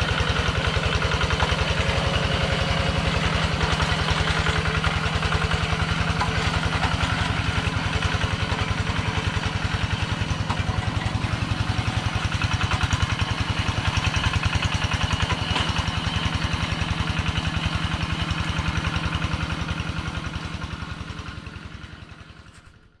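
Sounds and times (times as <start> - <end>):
diesel engine pulsing: 0.0 - 23.0.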